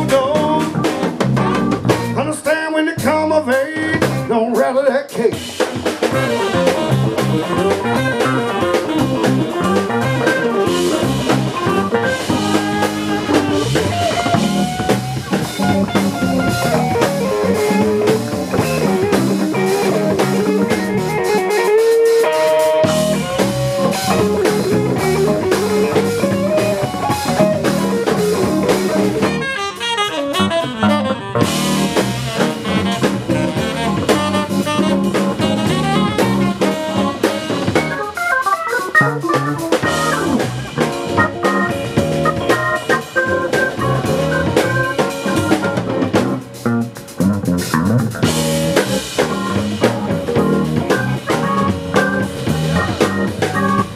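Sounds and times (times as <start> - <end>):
blues guitar: 0.0 - 53.9
drum kit: 0.0 - 53.9.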